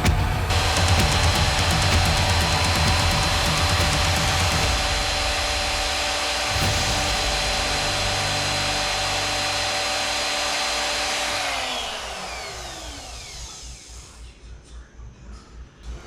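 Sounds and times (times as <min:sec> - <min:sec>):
power tool motor whining: 0:00.4 - 0:14.2.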